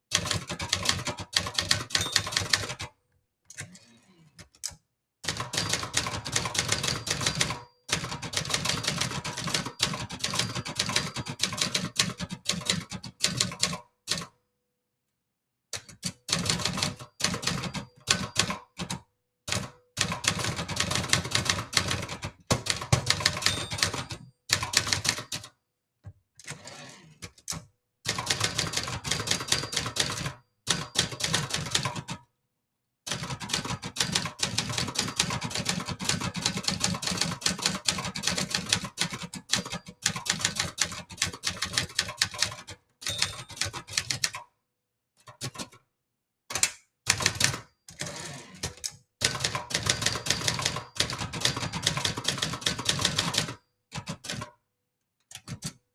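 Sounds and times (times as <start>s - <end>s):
manual typewriter typing: 0.1s - 2.9s, 4.4s - 14.3s, 15.8s - 25.6s, 26.5s - 32.2s, 33.1s - 44.5s, 45.2s - 45.8s, 46.5s - 54.6s, 55.2s - 55.9s.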